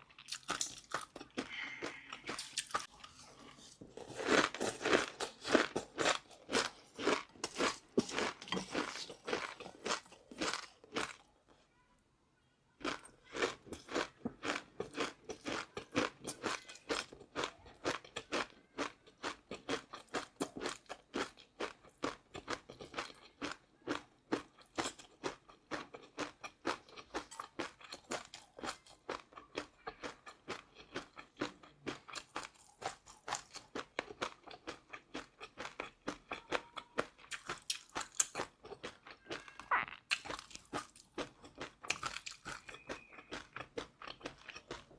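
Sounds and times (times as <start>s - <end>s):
person chewing crunchy food: 0.0s - 11.3s, 12.8s - 44.9s.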